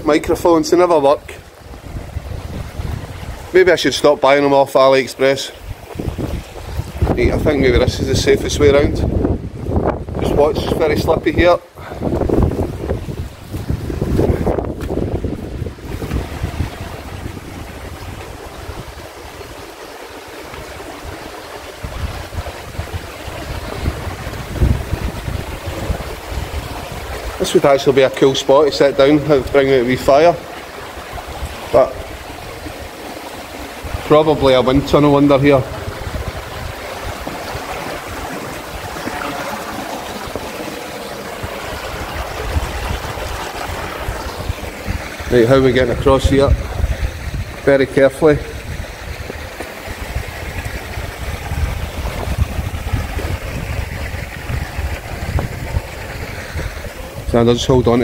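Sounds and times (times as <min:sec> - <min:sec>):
river water rushing: 0:00.0 - 0:58.0
wind buffeting microphone: 0:00.0 - 0:58.0.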